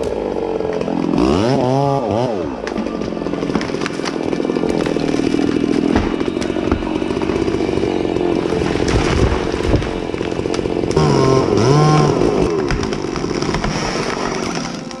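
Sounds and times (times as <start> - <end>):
chainsaw running under load: 0.0 - 15.0.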